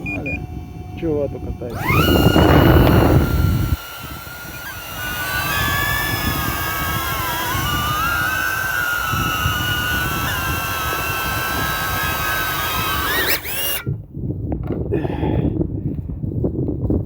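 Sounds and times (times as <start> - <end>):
drone motors whining: 0.0 - 13.9
rough wind noise: 0.0 - 17.0.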